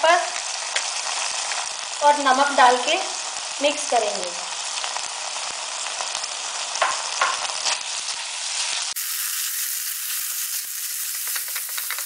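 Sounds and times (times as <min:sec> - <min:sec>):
vegetables sizzling in pan: 0:00.0 - 0:12.0.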